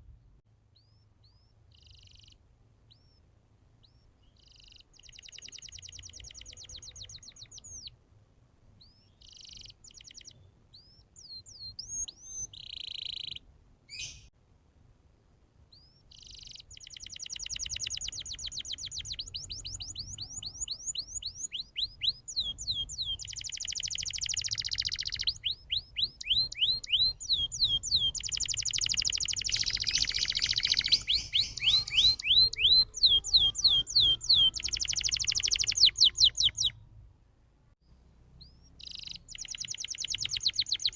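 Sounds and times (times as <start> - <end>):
canary singing trills: 0.7 - 8.0, 8.8 - 14.3, 15.7 - 36.8, 37.8 - 40.9.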